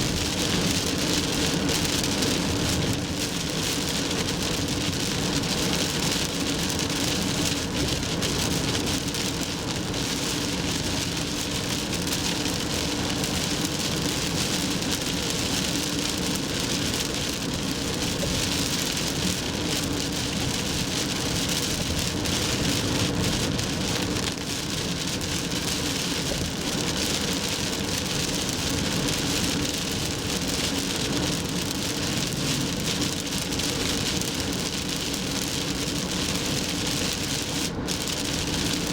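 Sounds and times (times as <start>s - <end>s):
rain and tyres on wet road: 0.0s - 38.9s.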